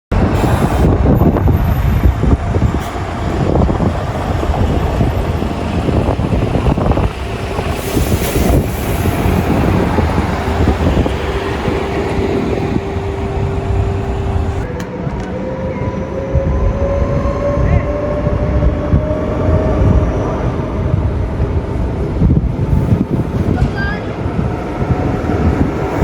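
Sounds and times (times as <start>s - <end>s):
city traffic noise: 0.1s - 26.0s
wind buffeting microphone: 0.1s - 26.0s.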